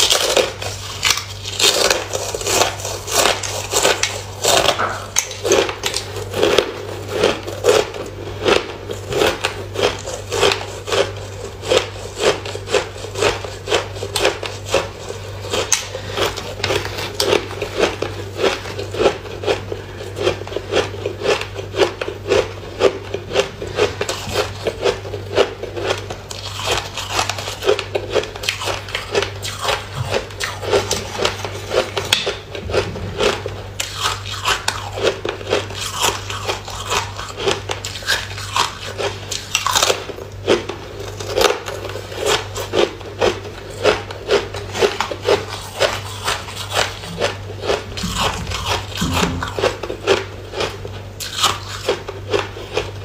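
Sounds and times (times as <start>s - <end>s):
ice being chewed: 0.0s - 53.0s
steady low hum: 0.0s - 53.0s.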